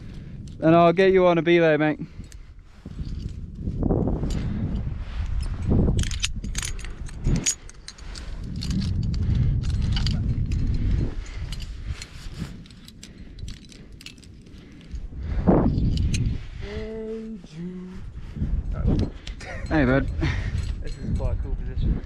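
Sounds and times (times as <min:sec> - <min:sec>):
climbing hardware jangling: 0:00.0 - 0:01.0, 0:02.0 - 0:16.4, 0:18.4 - 0:22.0
low rumbling on microphone: 0:02.2 - 0:22.0.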